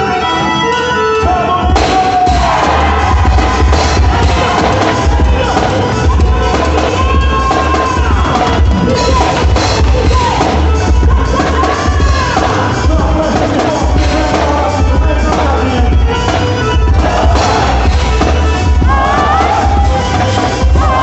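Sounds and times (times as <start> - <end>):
amplified dance music: 0.0 - 21.0.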